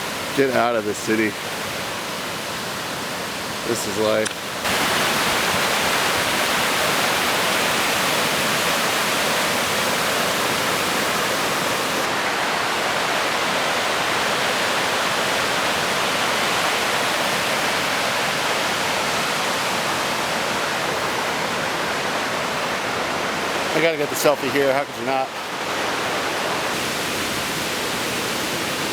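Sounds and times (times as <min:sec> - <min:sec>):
flowing water rushing: 0:00.0 - 0:28.9.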